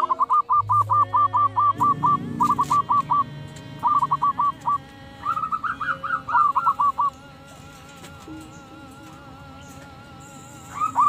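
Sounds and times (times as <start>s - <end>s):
doves cooing: 0.0s - 11.0s
faint steady tones: 0.0s - 11.0s.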